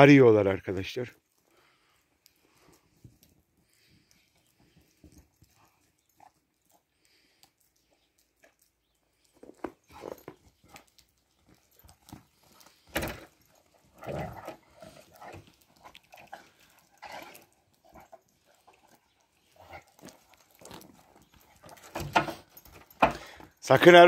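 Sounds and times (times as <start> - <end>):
dogs play-wrestling: 1.3 - 23.6.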